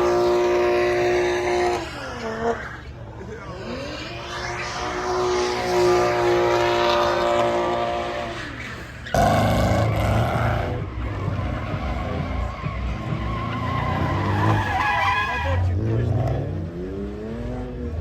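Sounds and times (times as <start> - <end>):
car engine at high revs: 0.0 - 18.0
tyres skidding and squealing: 0.0 - 18.0.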